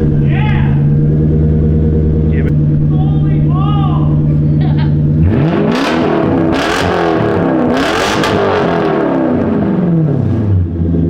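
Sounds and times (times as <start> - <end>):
car engine revving loudly: 0.0 - 11.0.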